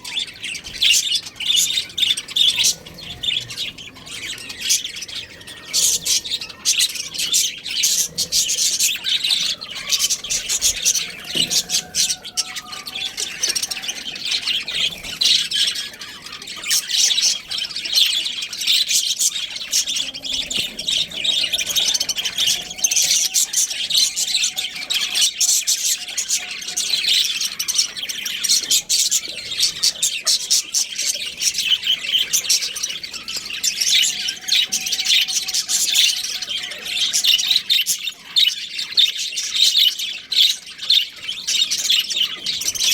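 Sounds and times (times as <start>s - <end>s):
budgerigars chirping and squawking: 0.0s - 42.9s.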